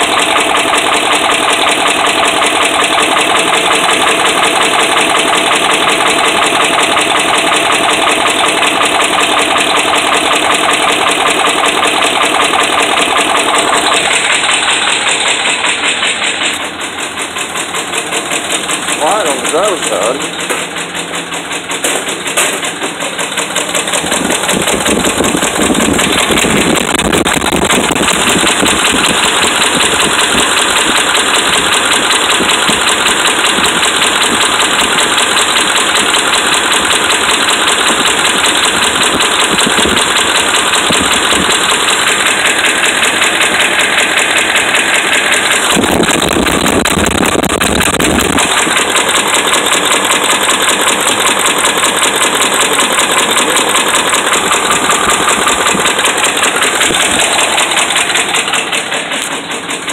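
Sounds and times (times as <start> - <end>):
car engine idling: 0.0 - 59.9
rapid engine bearing knock: 0.0 - 59.9.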